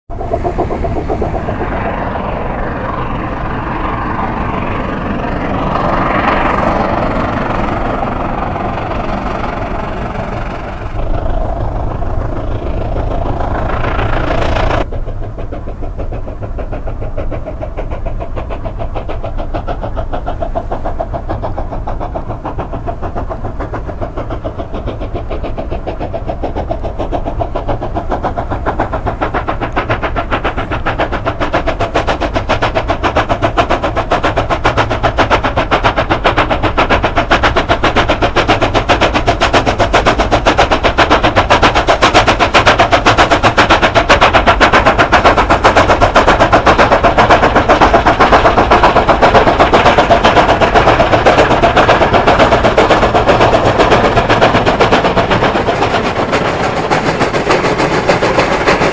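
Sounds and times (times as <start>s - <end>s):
heavy rumble: 0.0s - 58.9s
steam locomotive exhaust beats: 0.0s - 58.9s.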